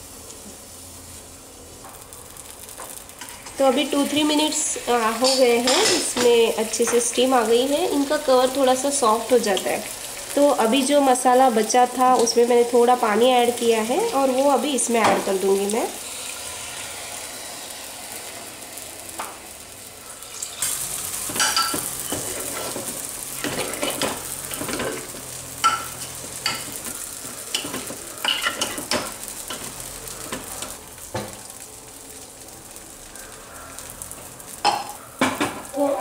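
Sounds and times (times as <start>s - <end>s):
food sizzling in a pot: 0.0s - 36.0s.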